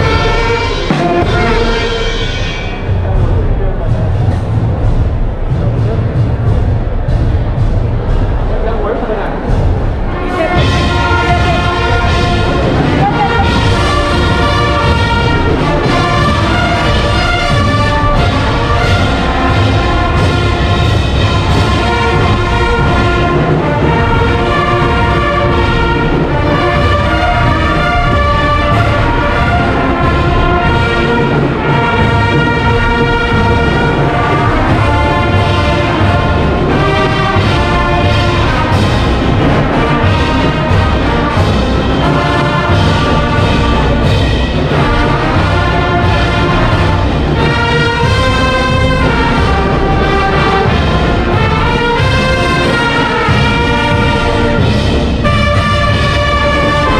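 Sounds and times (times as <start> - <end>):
brass band with drums: 0.0 - 56.9.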